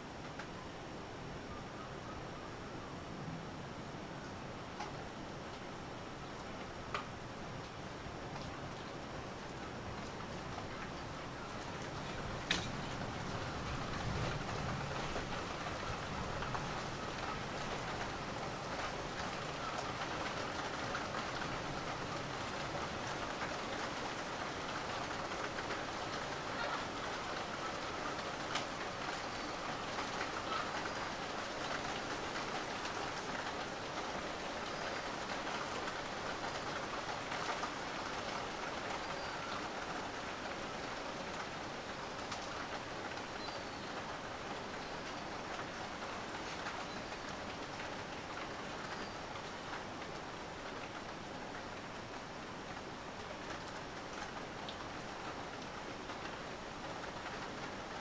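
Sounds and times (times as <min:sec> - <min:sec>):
heavy rain falling: 0:00.0 - 0:58.0
raindrops ticking: 0:06.3 - 0:58.0.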